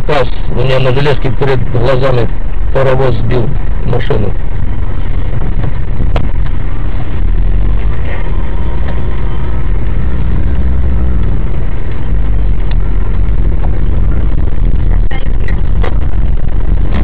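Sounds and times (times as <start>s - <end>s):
car running in cabin: 0.0s - 17.0s.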